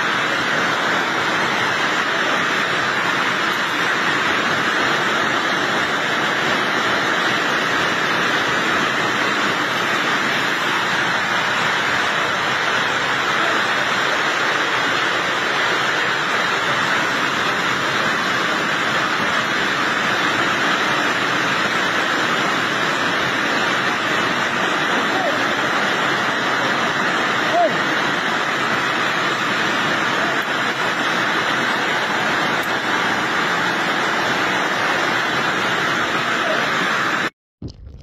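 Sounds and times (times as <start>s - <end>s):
hail and rain pelting down: 0.0s - 37.9s.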